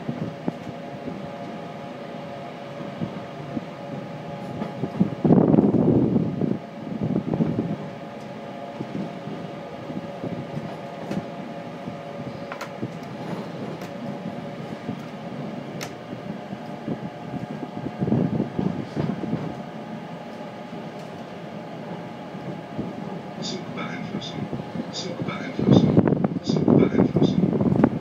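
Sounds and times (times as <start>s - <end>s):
train rolling drone: 0.0s - 28.0s.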